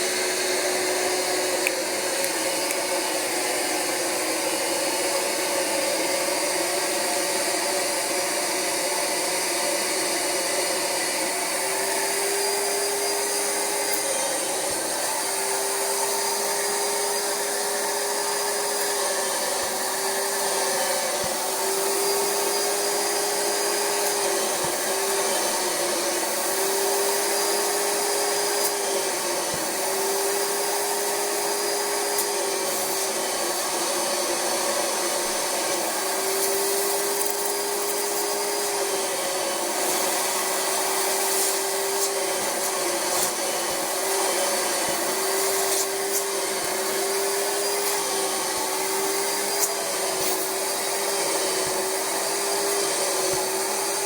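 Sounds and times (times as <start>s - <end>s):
carpet cleaner vacuum whine: 0.0s - 54.0s.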